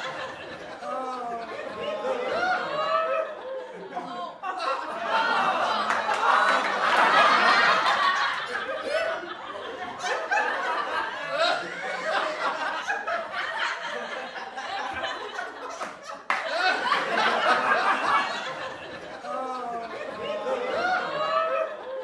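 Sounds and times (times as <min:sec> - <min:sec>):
people laughing: 0:00.0 - 0:22.0.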